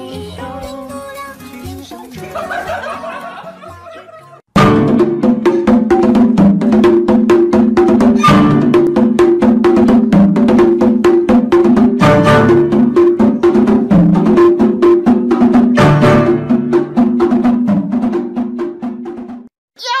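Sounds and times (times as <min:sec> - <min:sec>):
upbeat music with percussive beat: 0:00.0 - 0:19.6.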